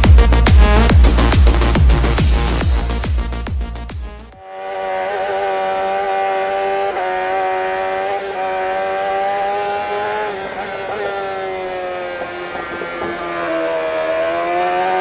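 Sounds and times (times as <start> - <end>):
small engine running high speed: 0.0 - 15.0.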